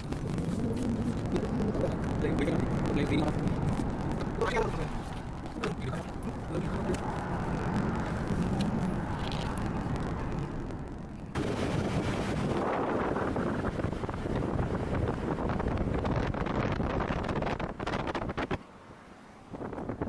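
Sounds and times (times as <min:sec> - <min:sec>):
wind buffeting microphone: 0:00.0 - 0:18.6, 0:19.4 - 0:20.0
car engine and road noise: 0:00.0 - 0:20.0.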